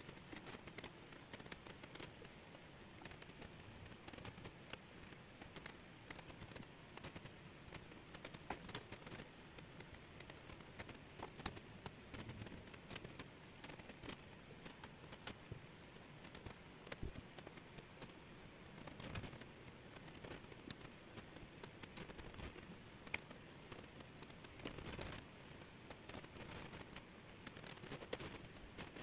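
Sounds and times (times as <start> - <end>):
wooden puzzle pieces clicking: 0.0 - 25.2, 25.9 - 29.0
soft steady hiss: 0.0 - 29.0.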